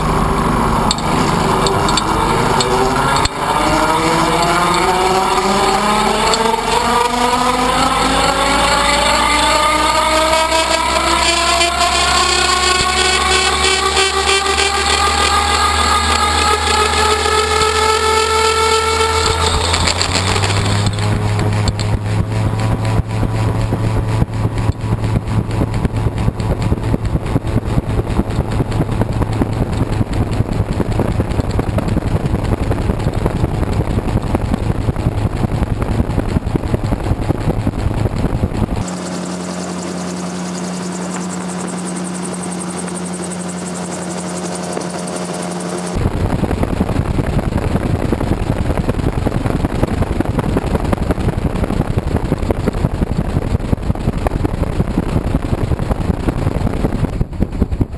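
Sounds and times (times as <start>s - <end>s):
engine drone: 0.0s - 57.9s
fast-pulsing rotor wind rush: 0.0s - 57.9s.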